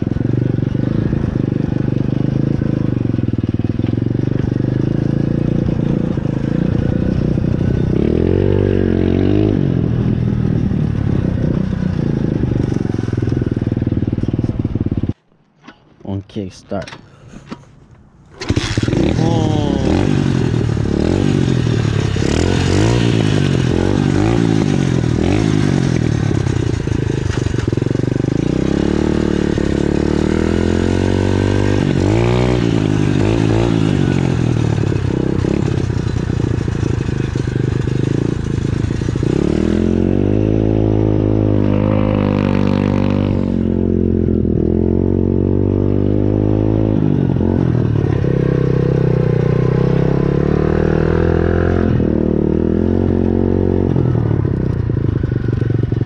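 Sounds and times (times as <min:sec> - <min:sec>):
pit bike engine revving: 0:00.0 - 0:15.2, 0:18.4 - 0:56.0.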